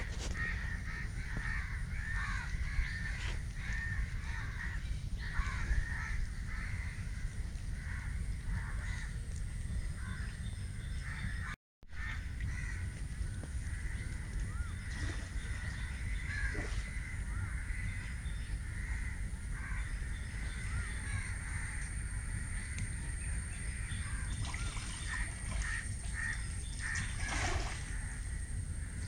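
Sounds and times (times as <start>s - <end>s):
birds calling: 0.0s - 29.0s.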